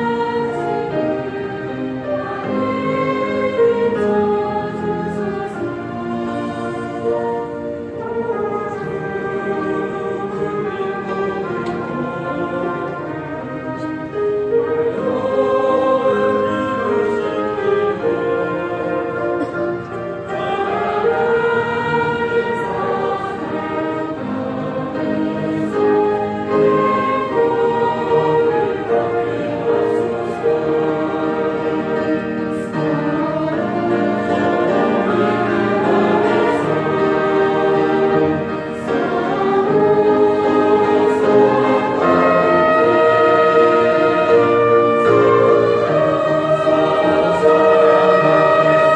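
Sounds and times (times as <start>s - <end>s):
choir singing a hymn: 0.0s - 48.9s
instrumental accompaniment: 0.0s - 48.9s.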